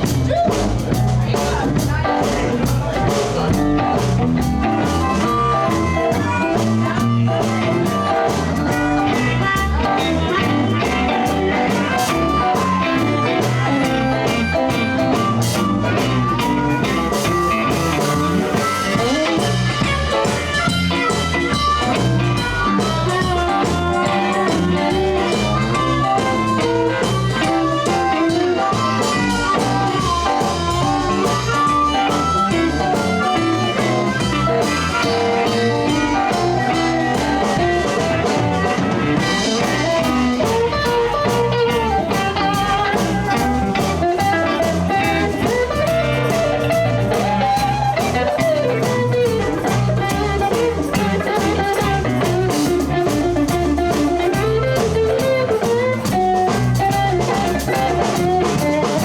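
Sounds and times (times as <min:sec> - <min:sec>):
blues band playing: 0:00.0 - 0:59.0.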